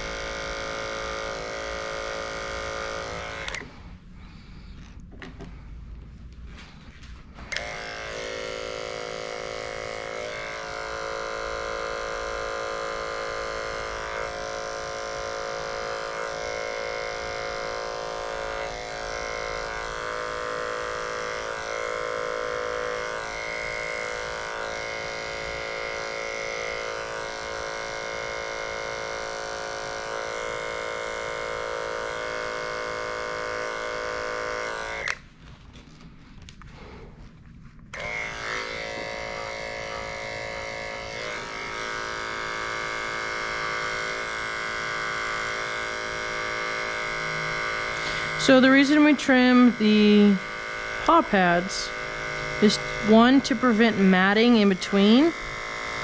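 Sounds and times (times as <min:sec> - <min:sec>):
electric clipper buzzing: 0:00.0 - 0:04.0, 0:07.4 - 0:35.3, 0:37.9 - 0:56.0.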